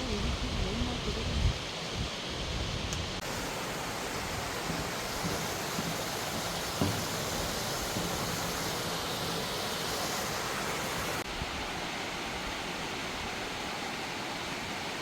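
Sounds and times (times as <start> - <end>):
water rushing in a stream: 0.0 - 15.0.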